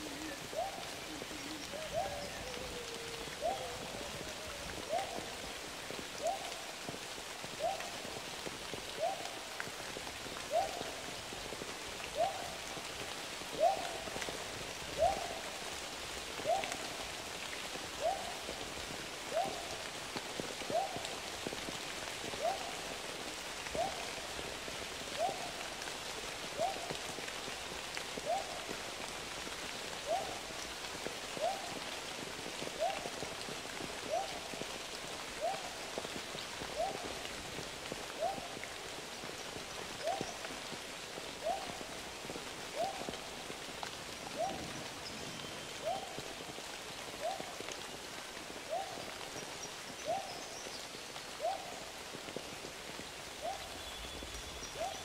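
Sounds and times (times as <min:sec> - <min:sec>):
steady watery hiss: 0:00.0 - 0:55.0.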